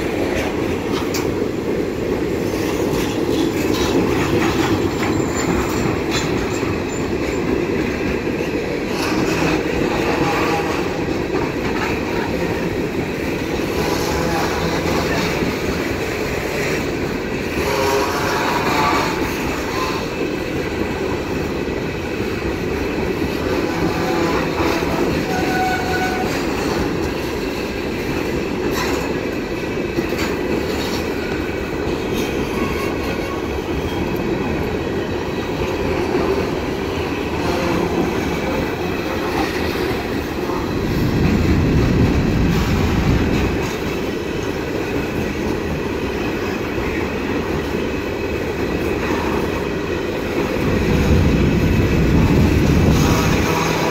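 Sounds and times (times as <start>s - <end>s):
train rumbling past: 0.0s - 53.9s
wheels clacking over rail joints: 0.0s - 53.9s.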